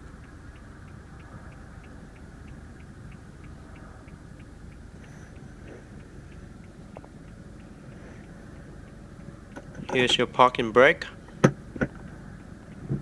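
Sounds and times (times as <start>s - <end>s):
low car cabin hum: 0.0s - 12.7s
light regular ticking: 0.0s - 13.0s.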